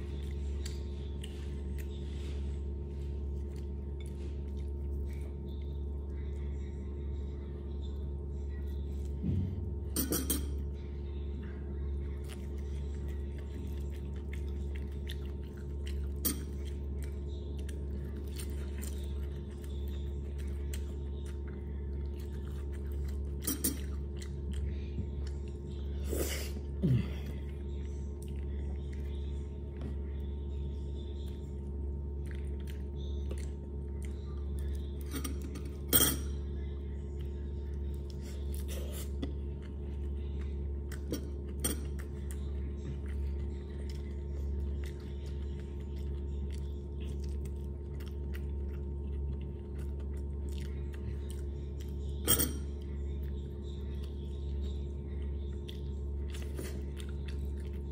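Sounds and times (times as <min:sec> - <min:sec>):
person chewing food: 0:00.0 - 0:06.5, 0:12.0 - 0:57.9
steady low hum: 0:00.0 - 0:57.9.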